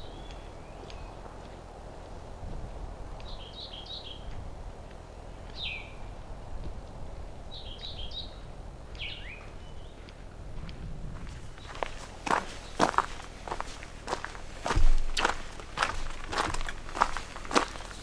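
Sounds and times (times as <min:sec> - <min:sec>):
songbird chirping: 0:00.0 - 0:01.6, 0:03.2 - 0:06.2, 0:06.8 - 0:10.3, 0:11.4 - 0:18.0.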